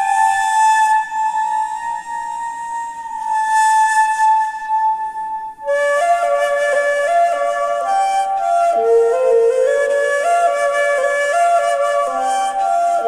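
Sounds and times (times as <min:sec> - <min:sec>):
reed flute melody: 0:00.0 - 0:13.0.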